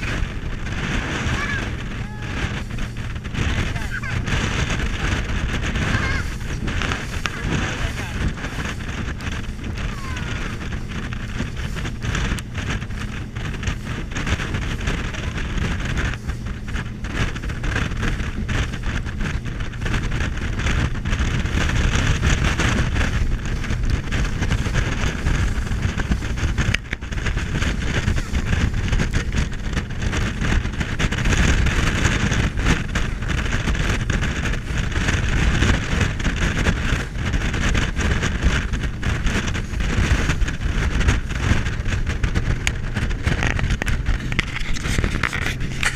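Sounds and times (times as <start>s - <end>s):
boat engine drone: 0.0s - 45.9s
water rushing against hull: 0.0s - 45.9s
wind rushing over microphone: 0.0s - 45.9s.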